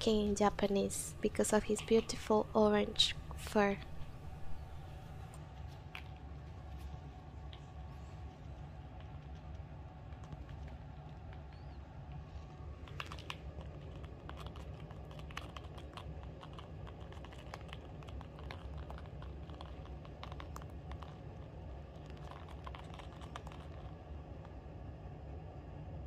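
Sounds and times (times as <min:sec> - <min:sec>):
rabbits munching dry hay: 0:00.0 - 0:24.6.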